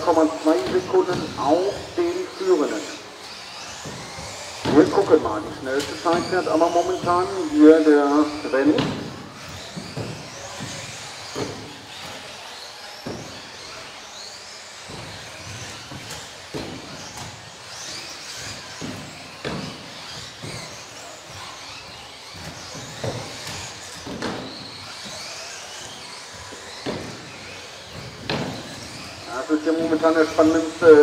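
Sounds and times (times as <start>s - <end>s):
cars knocking on track: 0.0s - 31.0s
rc car motors whining: 0.0s - 31.0s.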